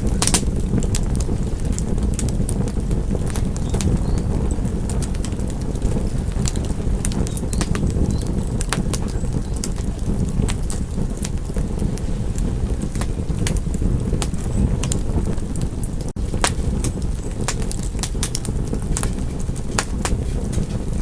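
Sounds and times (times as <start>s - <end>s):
wood fire burning: 0.0s - 21.0s.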